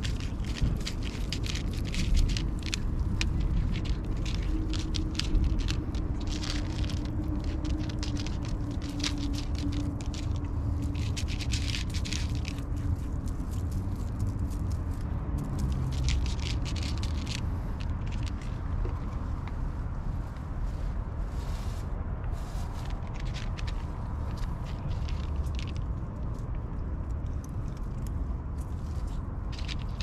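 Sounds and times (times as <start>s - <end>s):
cat crunching dry kibble: 0.0s - 19.4s, 22.3s - 30.0s
low rumble: 0.0s - 30.0s.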